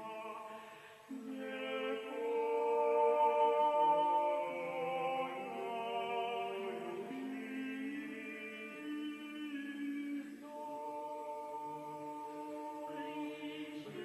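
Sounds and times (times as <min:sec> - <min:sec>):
choir chanting sustained chords: 0:00.0 - 0:14.0.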